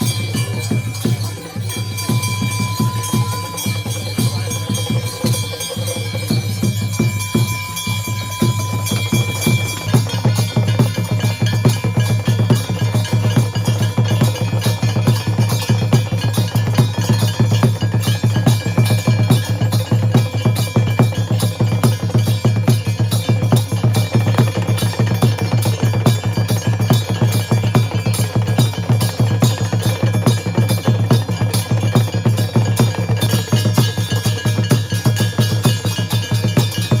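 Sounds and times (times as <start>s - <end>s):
fast steady drumming: 0.0s - 37.0s
temple bells ringing: 0.0s - 37.0s.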